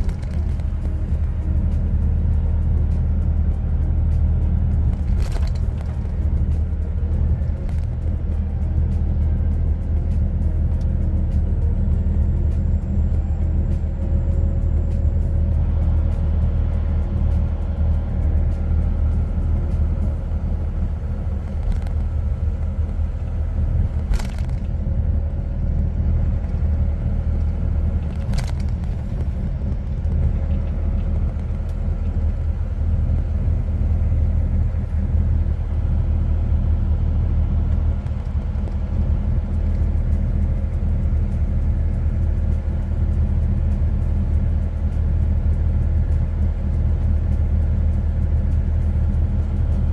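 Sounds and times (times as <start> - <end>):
truck rumbling on road: 0.0 - 49.9.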